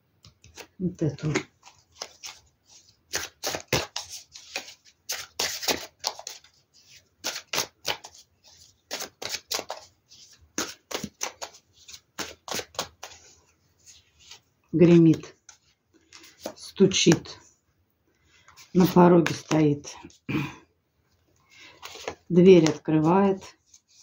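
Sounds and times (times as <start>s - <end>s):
cards being shuffled: 0.2s - 17.4s, 18.4s - 19.9s, 21.6s - 24.0s.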